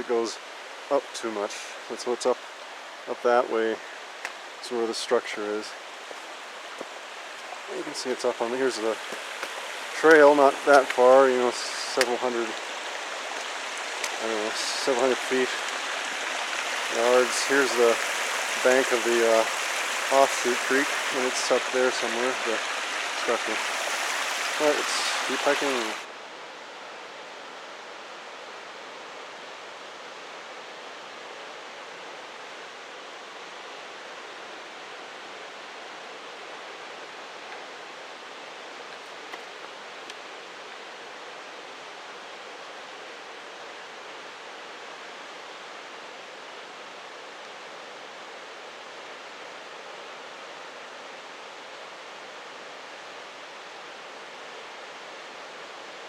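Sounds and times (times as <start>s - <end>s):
mountain creek rushing: 0.0s - 56.0s.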